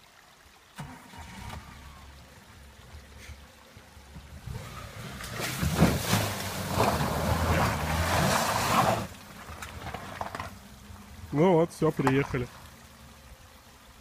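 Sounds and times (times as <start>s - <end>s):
car engine under load: 0.8s - 13.5s
water splashing against car: 0.8s - 13.6s.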